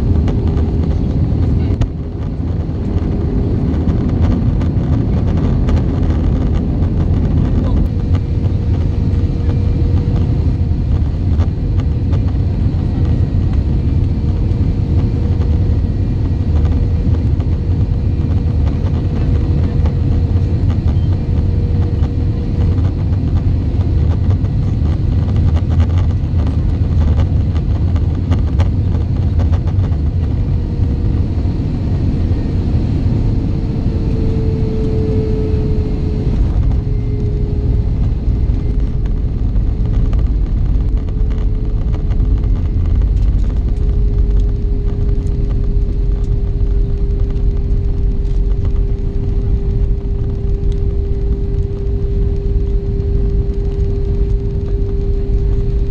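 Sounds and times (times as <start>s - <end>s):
jet engines and airflow rumble: 0.0s - 55.9s
steady cabin hum: 0.0s - 55.9s.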